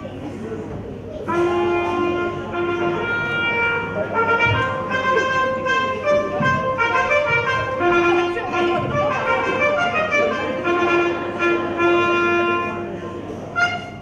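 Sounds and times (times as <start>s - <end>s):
instrumental music with held notes: 1.2s - 14.0s.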